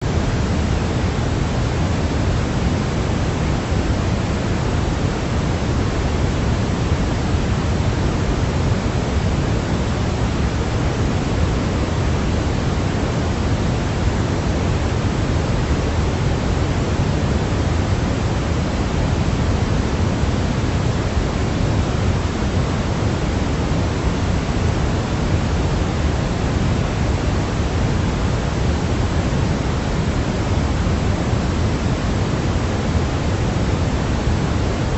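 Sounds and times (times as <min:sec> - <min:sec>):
low pink noise hiss: 0:00.0 - 0:34.9.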